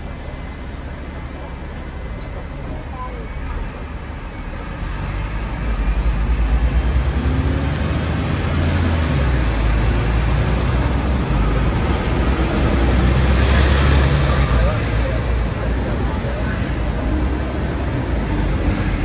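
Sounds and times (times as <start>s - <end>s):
tram rumbling along tracks: 0.0s - 19.0s.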